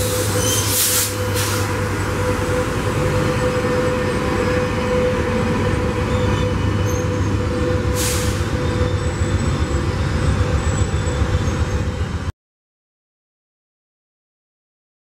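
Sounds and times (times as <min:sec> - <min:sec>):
diesel locomotives droning: 0:00.0 - 0:12.3
locomotive whine: 0:00.0 - 0:12.3.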